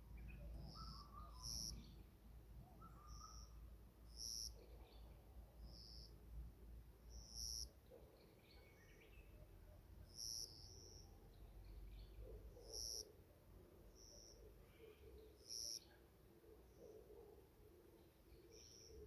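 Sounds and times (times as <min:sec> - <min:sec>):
birds twittering faintly: 0:00.0 - 0:19.0.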